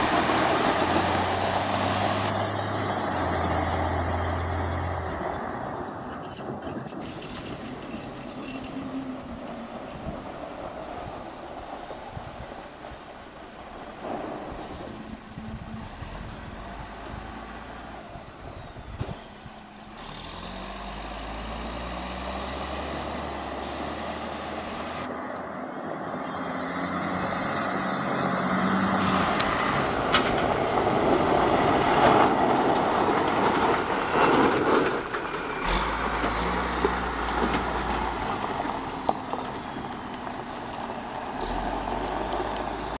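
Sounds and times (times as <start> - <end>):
truck diesel engine running: 0.0 - 43.0
tyres on gravel: 0.0 - 43.0.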